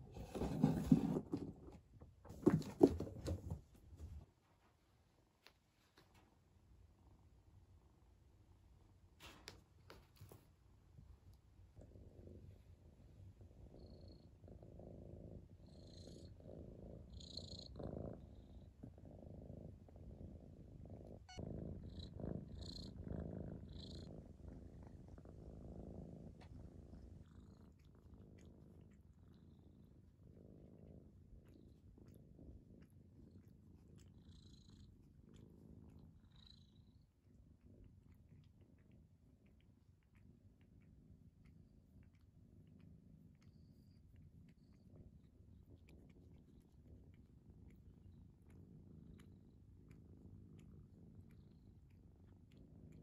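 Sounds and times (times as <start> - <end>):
cat purring: 0.0 - 4.4, 5.4 - 53.0.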